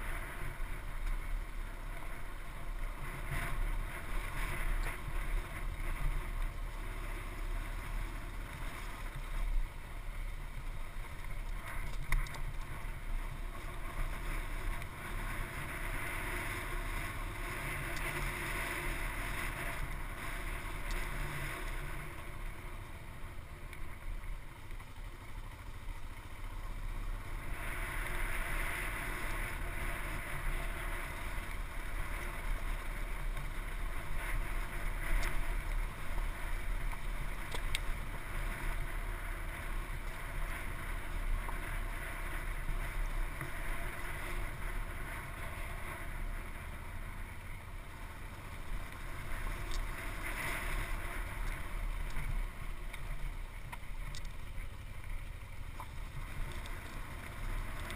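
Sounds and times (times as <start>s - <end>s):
motorcycle engine drone: 0.0s - 57.9s.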